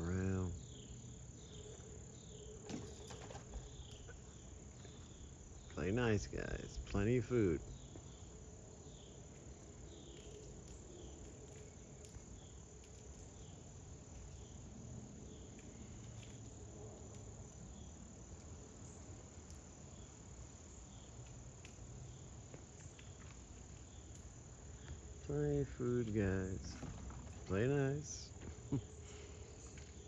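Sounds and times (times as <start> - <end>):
high insect chorus: 0.0 - 30.0
soft insect chirps: 0.0 - 30.0.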